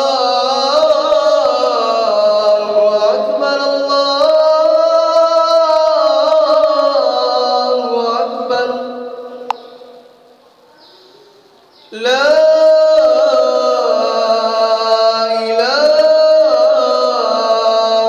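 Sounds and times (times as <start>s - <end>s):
man chanting call to prayer: 0.0s - 10.1s, 11.9s - 18.0s.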